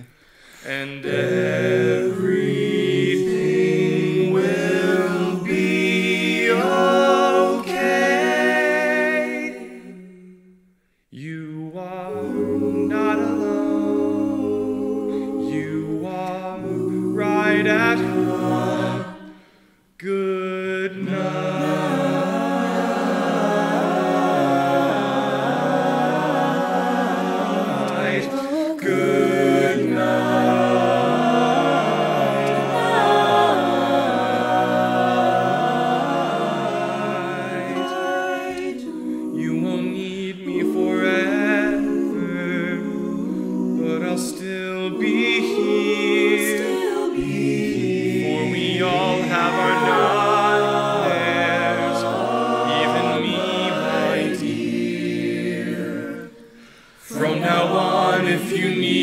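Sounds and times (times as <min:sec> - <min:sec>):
a cappella choir singing in harmony: 0:00.0 - 0:59.0.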